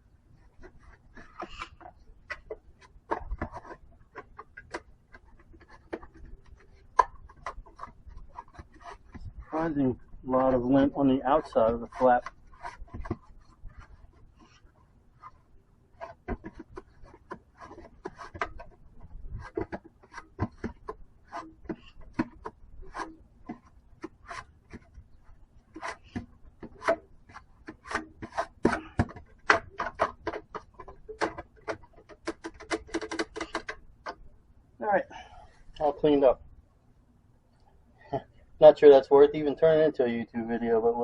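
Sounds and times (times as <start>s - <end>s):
scraping metal dryer vent: 0.3s - 34.3s
scratchy strokes and clicks: 0.3s - 34.3s.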